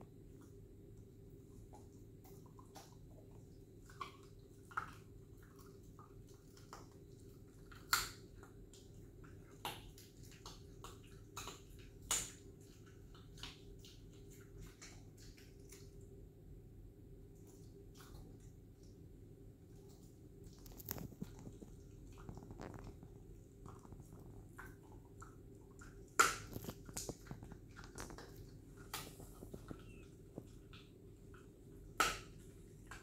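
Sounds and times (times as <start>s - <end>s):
faint steady hum: 0.0s - 33.0s
dog licking and mouth smacks: 1.6s - 16.1s, 19.7s - 33.0s.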